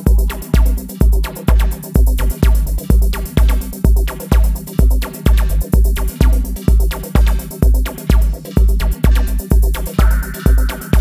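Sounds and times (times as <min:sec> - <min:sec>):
deep bass: 0:00.0 - 0:11.0
electronic dance music: 0:00.0 - 0:11.0
heavy kick drum: 0:00.0 - 0:11.0.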